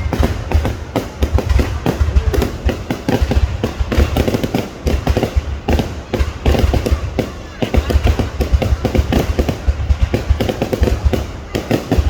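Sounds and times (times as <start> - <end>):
fireworks deep booms: 0.0 - 12.0
fireworks sharp bangs: 0.0 - 12.0.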